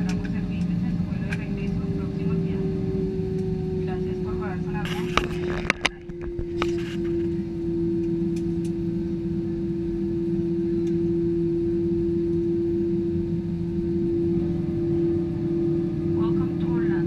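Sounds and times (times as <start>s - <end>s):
airliner droning rumble: 0.0s - 17.0s.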